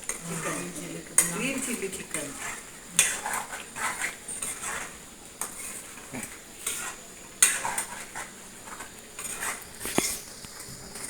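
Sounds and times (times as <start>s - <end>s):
dishes scraping: 0.0s - 11.0s.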